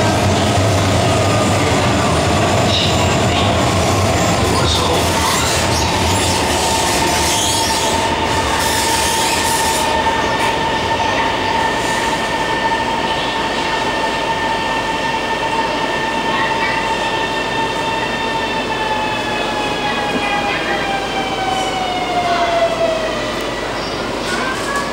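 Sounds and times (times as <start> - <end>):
train wheels on track: 0.0 - 24.9.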